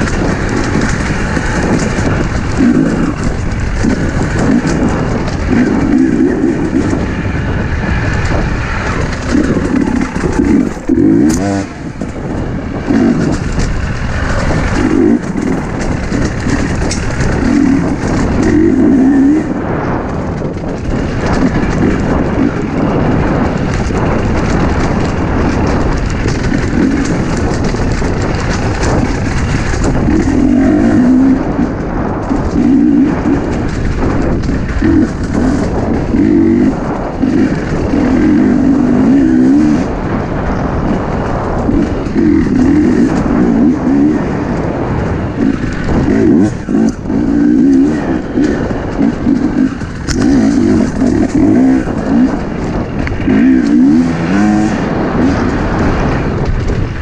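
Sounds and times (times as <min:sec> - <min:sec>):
bike rattling over stones: 0:00.0 - 0:57.0
dirt bike engine revving: 0:00.0 - 0:57.0.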